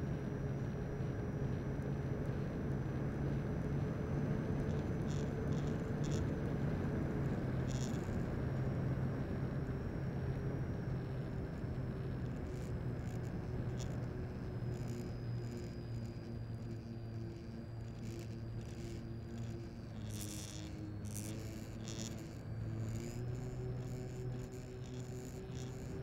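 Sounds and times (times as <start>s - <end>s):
electric motor and propeller drone: 0.0s - 26.0s.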